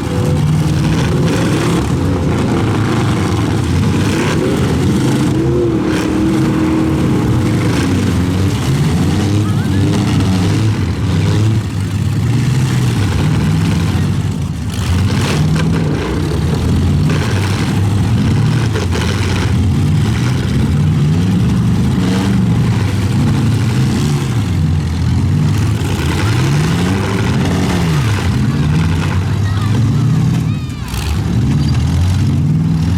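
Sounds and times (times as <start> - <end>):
truck engines revving: 0.0 - 32.9.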